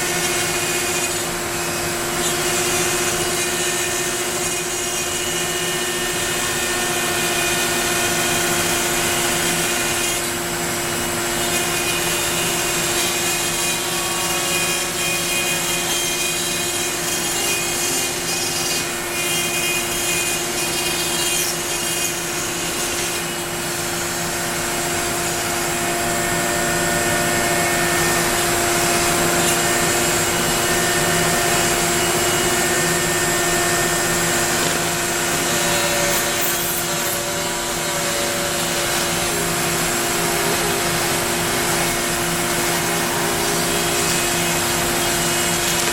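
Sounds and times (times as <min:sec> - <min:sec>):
router bit cutting wood: 0:00.0 - 0:45.9
router spindle whine: 0:00.0 - 0:45.9.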